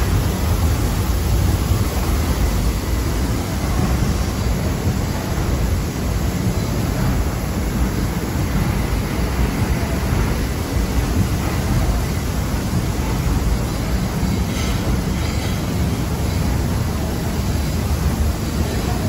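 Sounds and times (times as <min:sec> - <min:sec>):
paddle wheel churning water: 0:00.0 - 0:19.0.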